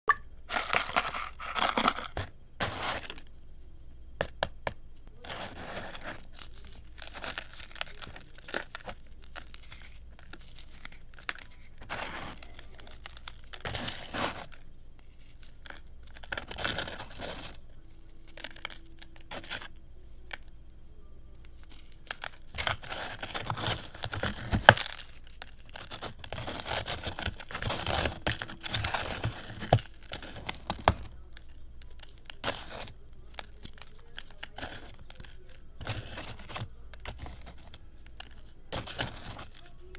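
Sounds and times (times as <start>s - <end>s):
crunchy crumbles crushed by hand: 0.4s - 3.4s, 4.2s - 39.9s.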